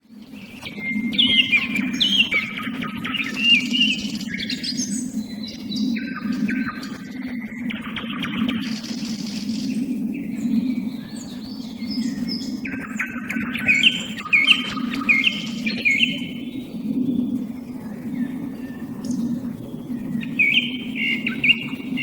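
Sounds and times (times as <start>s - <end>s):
song thrush singing: 0.0s - 22.0s
nightingale singing: 0.1s - 16.7s, 20.0s - 22.0s.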